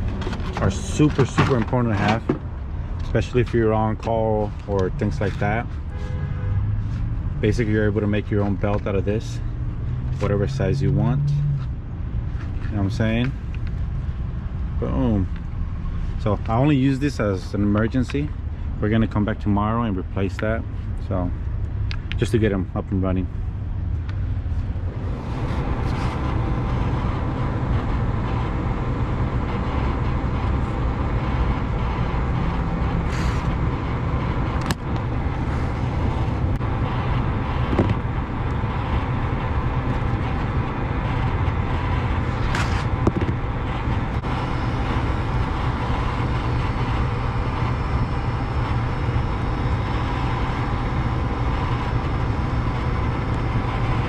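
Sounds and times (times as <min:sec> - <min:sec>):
low rumble and hum: 0:00.0 - 0:54.0.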